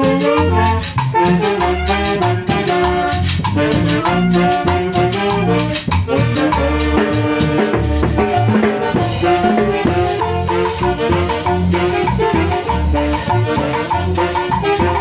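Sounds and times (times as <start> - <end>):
bass line: 0.0 - 15.0
brass horns melody: 0.0 - 15.0
percussion: 0.0 - 15.0.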